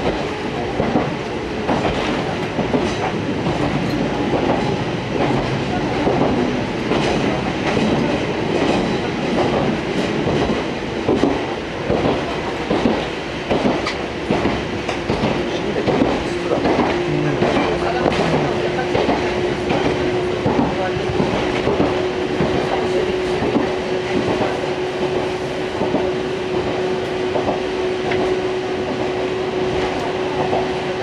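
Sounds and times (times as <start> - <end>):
train rolling rumble: 0.0 - 31.0.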